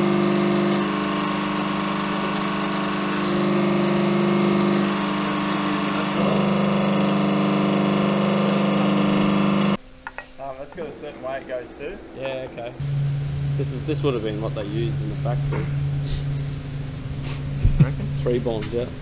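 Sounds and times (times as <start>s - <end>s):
hydraulic press pump humming: 0.0s - 9.8s, 12.8s - 19.0s.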